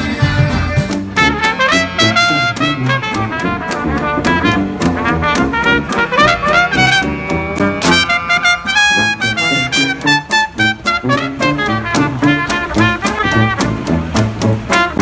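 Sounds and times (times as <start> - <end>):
swing music with brass: 0.0 - 15.0.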